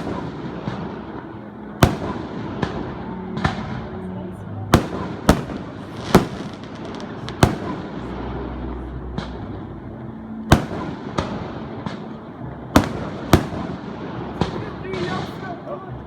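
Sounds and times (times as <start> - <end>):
fireworks bangs: 0.0 - 4.1, 4.7 - 9.7, 10.5 - 15.7
small fireworks crackles: 0.0 - 16.0.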